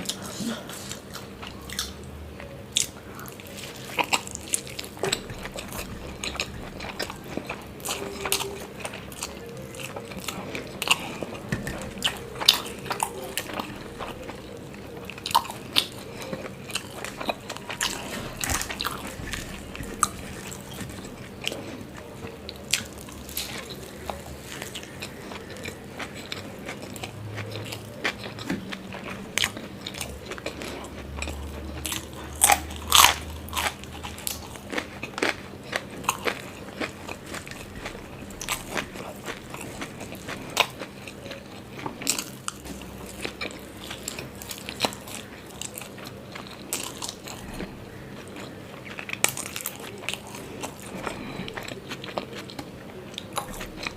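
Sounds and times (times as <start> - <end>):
person chewing and biting food: 0.0 - 53.9.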